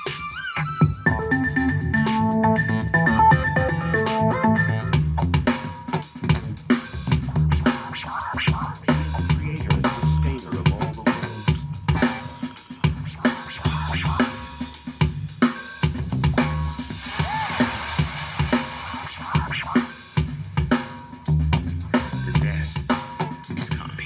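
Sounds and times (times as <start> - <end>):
drum music with heavy bass: 0.0 - 24.0.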